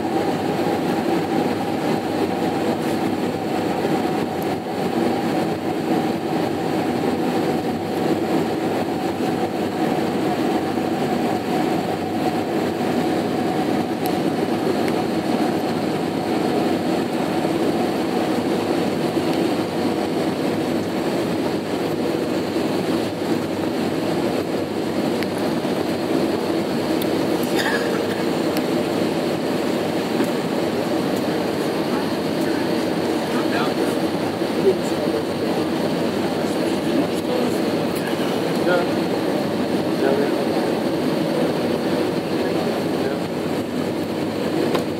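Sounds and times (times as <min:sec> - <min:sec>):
airliner cabin roar: 0:00.0 - 0:44.9.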